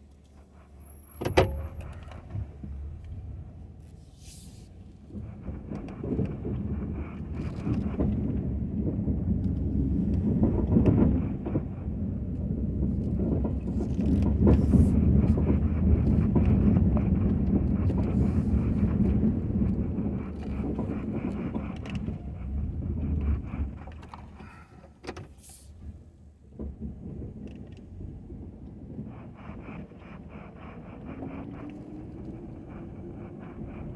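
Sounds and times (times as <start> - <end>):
pickup truck engine rumble: 0.0 - 33.9.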